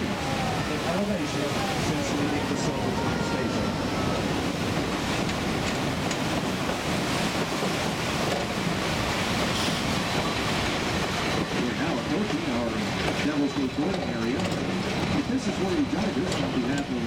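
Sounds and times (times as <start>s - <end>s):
rushing creek: 0.0s - 17.0s
train running noise: 0.0s - 17.0s
wind on microphone: 0.0s - 17.0s.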